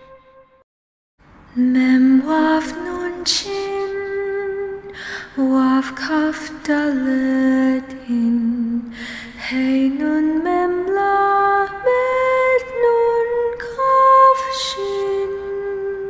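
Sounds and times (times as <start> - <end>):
woman singing slow chant: 1.5 - 16.0.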